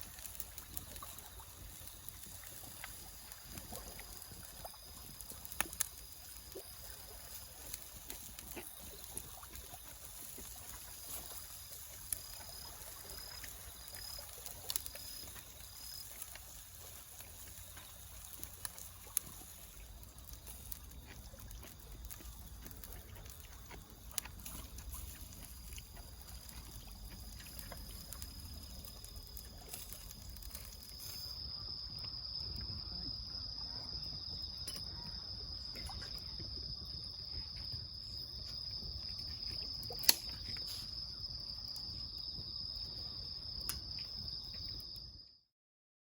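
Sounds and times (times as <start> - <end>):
cricket trilling: 0.0 - 45.4.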